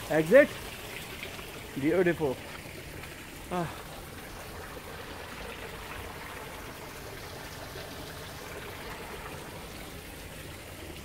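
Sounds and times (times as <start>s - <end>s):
water rushing in a channel: 0.0s - 11.0s.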